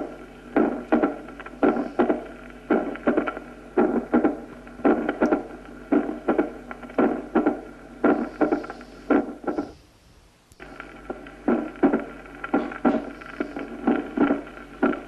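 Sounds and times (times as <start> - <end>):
heartbeat with murmur: 0.0 - 9.9, 10.6 - 15.0.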